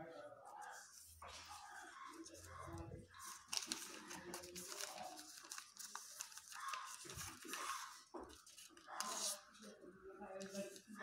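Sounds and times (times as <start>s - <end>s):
paper rustling and crinkling: 0.7s - 9.7s.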